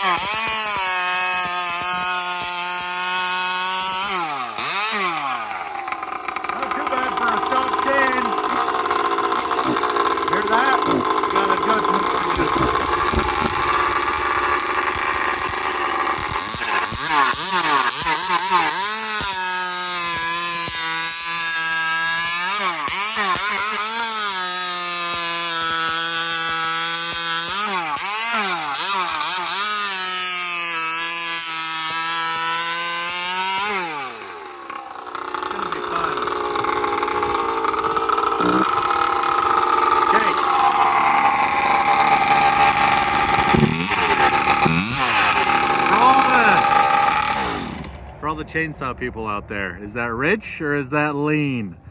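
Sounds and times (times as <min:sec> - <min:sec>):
chainsaw engine revving: 0:00.0 - 0:48.1.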